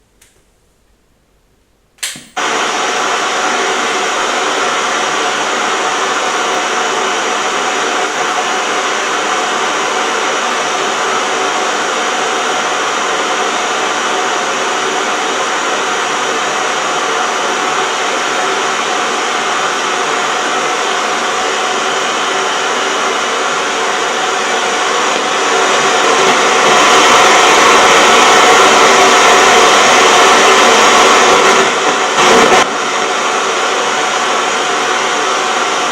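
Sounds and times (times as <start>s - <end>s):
television static hiss: 0.0s - 35.9s.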